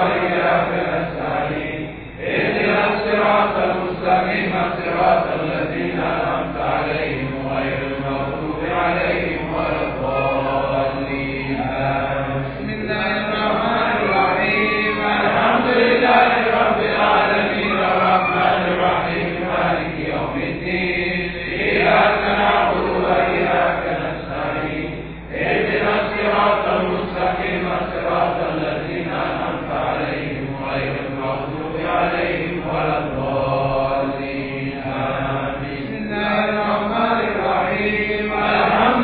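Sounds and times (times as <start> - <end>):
voices chanting in unison: 0.0 - 39.0.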